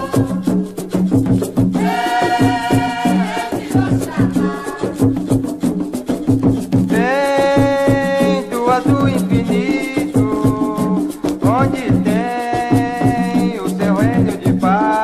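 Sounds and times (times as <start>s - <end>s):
drum rhythm: 0.0s - 15.0s
rattling shaker: 0.0s - 15.0s.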